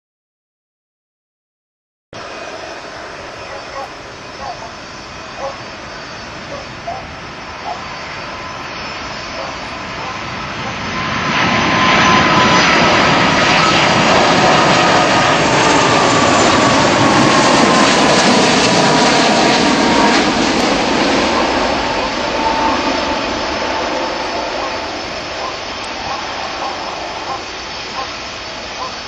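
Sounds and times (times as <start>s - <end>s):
jet engines roaring past: 2.2s - 29.0s.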